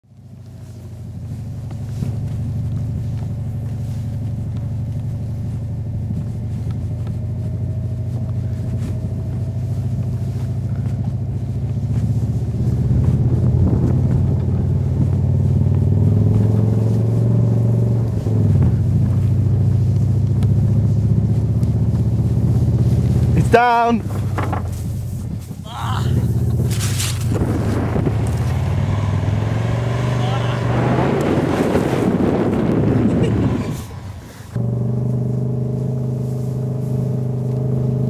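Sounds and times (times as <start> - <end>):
car engine droning under load: 0.0 - 38.0.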